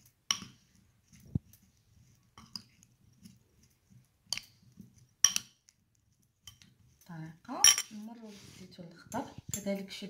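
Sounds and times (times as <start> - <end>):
metal spoon stirring olives: 0.0 - 10.0.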